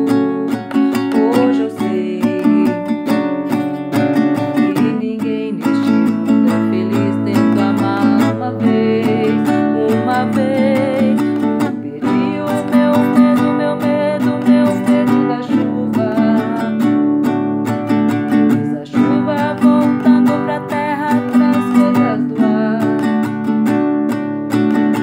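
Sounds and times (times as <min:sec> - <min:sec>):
acoustic guitar strumming chords: 0:00.0 - 0:25.0
woman singing: 0:00.0 - 0:25.0.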